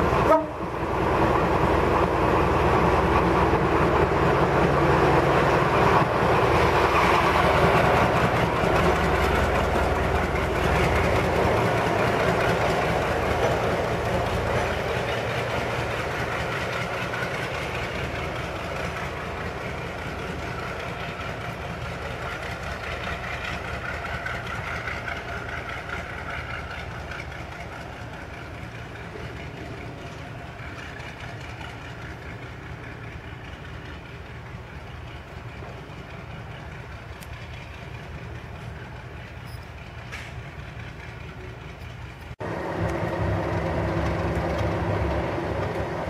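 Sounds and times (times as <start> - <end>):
diesel locomotive engines running: 0.0 - 46.0.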